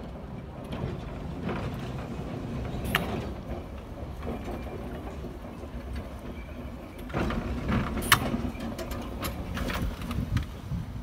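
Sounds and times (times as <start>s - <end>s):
streetcar wheels rumbling: 0.0s - 11.0s
metal clicks and clanks: 0.6s - 10.5s.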